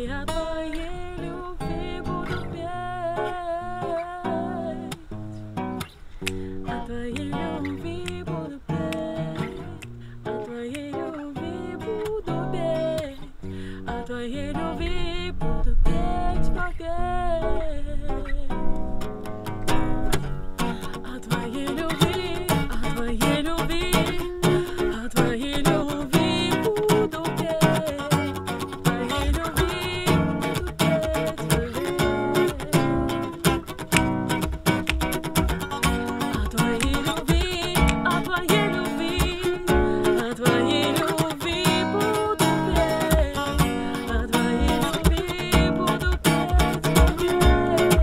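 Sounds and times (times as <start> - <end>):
woman singing: 0.0 - 5.3, 6.6 - 19.0, 20.6 - 48.0
acoustic guitar strumming: 0.0 - 48.0.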